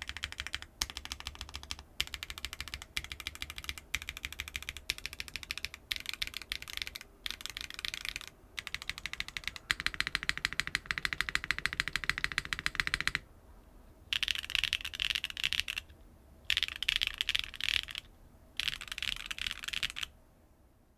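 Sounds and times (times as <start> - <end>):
typing on mechanical keyboard: 0.0 - 13.2, 14.1 - 15.9, 16.5 - 20.1.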